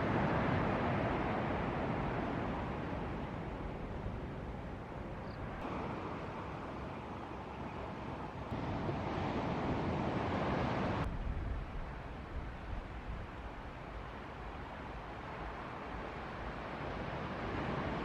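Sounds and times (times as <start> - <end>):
ocean surf: 0.0 - 18.0.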